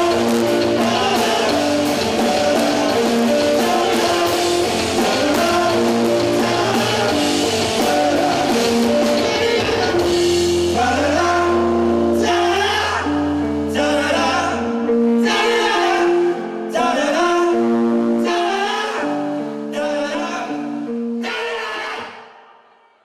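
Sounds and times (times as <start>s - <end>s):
live rock band playing: 0.0s - 21.3s.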